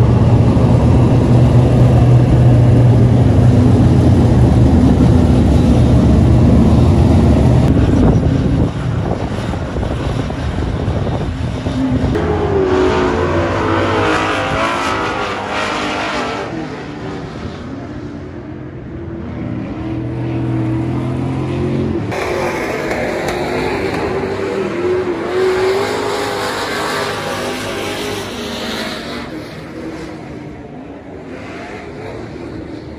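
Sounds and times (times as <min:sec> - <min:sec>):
race car engines revving: 0:00.0 - 0:32.9.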